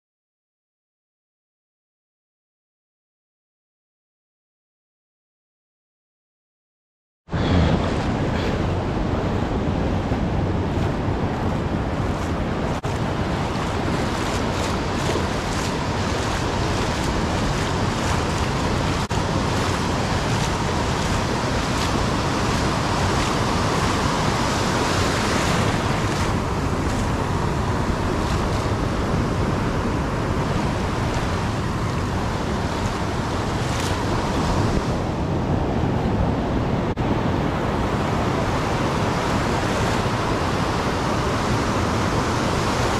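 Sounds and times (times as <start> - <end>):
ocean surf breaking: 7.3 - 42.9
wind on microphone: 7.3 - 42.9.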